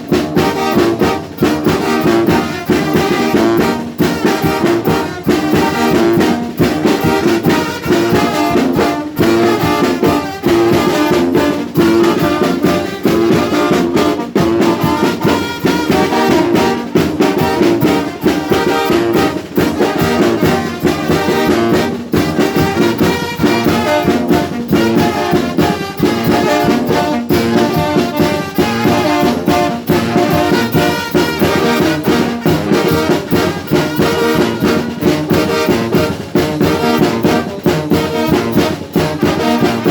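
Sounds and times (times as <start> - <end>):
steady drum beat: 0.0 - 39.9
trumpets and trombones: 0.0 - 39.9.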